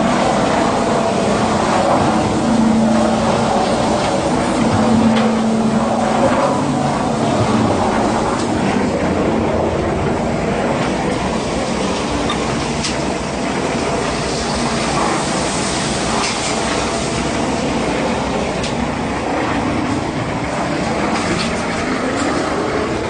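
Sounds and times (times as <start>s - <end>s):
concrete pump machine rumbling: 0.0s - 23.0s.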